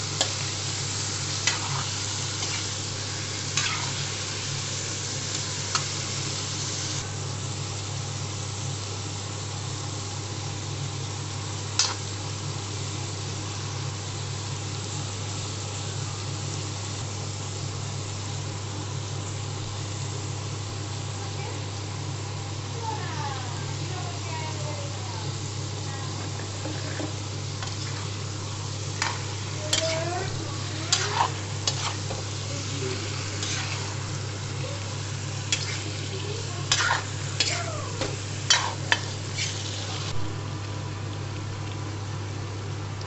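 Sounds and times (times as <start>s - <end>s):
chicken and onions sizzling: 0.0s - 43.0s.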